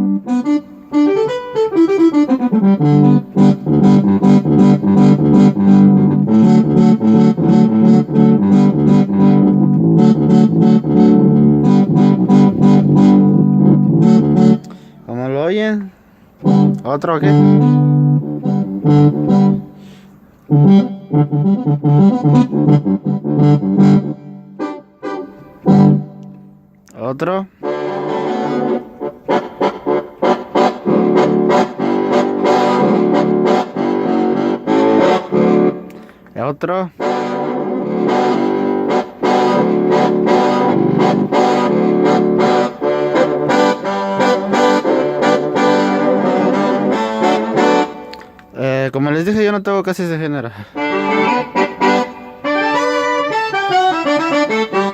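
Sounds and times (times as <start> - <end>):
sampled brass band phrases on keyboard: 0.0 - 54.9.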